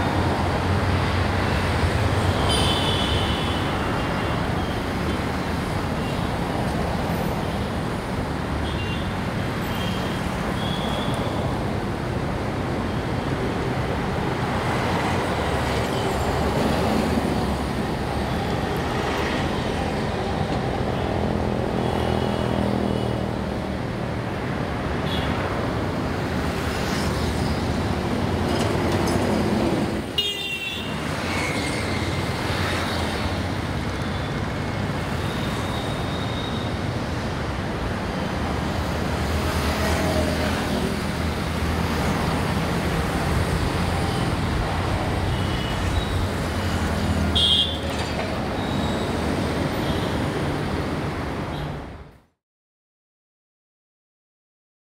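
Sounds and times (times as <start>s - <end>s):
road traffic passing: 0.0s - 52.3s.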